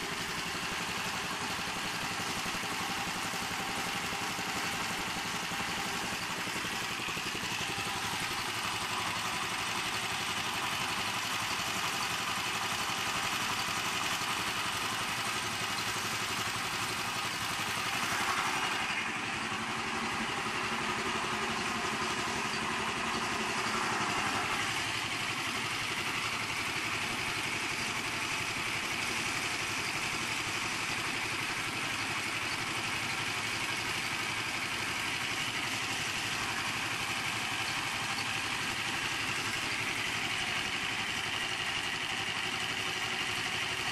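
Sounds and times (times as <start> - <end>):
single-cylinder engine running: 0.0 - 43.9.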